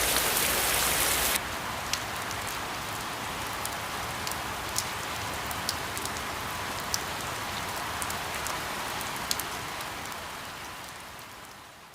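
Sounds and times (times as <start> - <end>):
steady rain hiss: 0.0 - 11.9.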